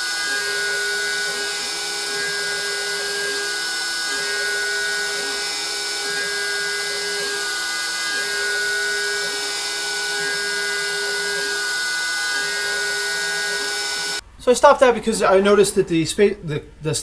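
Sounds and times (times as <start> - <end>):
router spindle whining: 0.0 - 15.6
stepper motors whining: 0.0 - 15.9.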